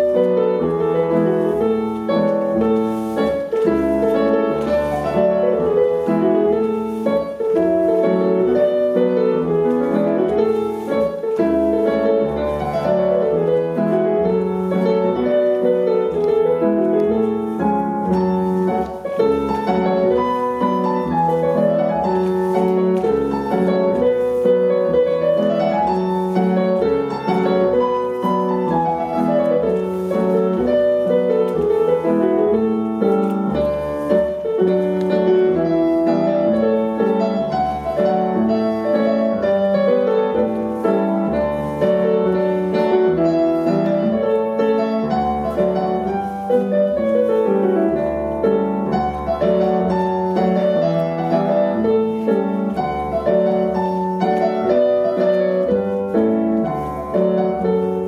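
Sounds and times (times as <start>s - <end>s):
piano playing dance tune: 0.0s - 58.0s.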